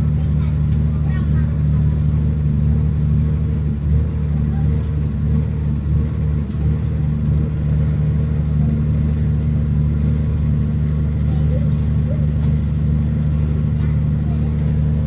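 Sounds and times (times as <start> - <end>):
diesel train engine hum: 0.0 - 15.0.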